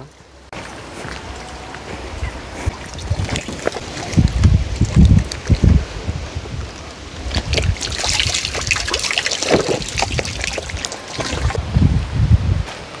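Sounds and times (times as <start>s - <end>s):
water trickling and splashing: 0.0s - 11.7s
wind on microphone: 0.8s - 13.0s.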